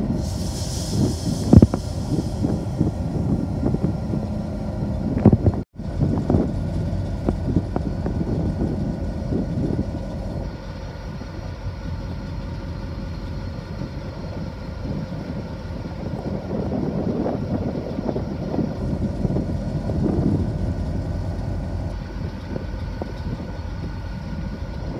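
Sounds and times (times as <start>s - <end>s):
diesel locomotive idling: 0.0s - 24.9s.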